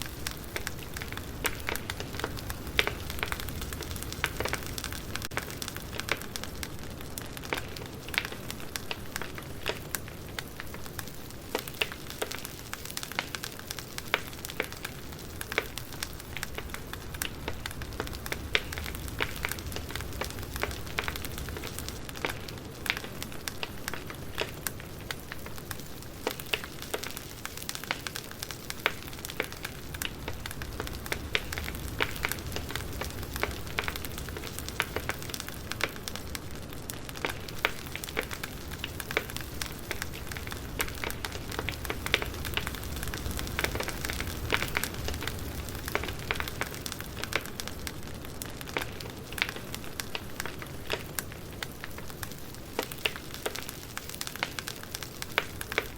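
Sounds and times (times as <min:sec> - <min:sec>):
burning wood crackling and popping: 0:00.0 - 0:55.9
campfire flames rumbling: 0:00.0 - 0:55.9.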